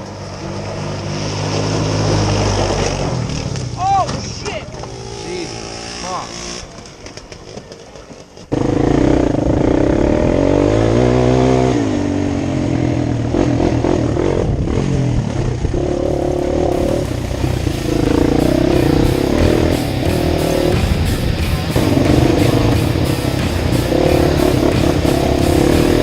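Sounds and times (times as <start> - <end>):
engine revving: 0.0 - 3.8, 4.7 - 26.0.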